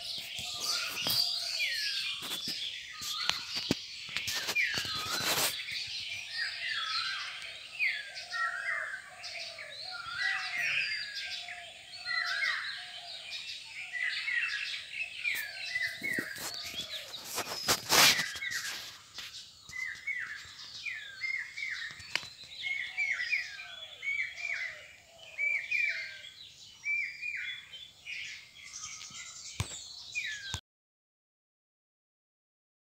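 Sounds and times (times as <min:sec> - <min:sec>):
low repeated bird call: 0:00.0 - 0:30.6
small birds chirping: 0:00.0 - 0:30.6.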